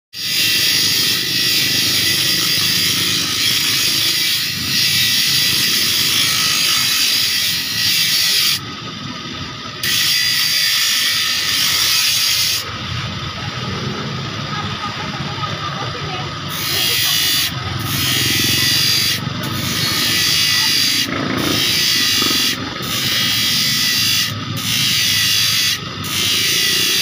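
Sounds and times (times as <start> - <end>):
grinder motor hum: 0.2 - 27.0
grinding wheel grinding steel: 0.2 - 27.0.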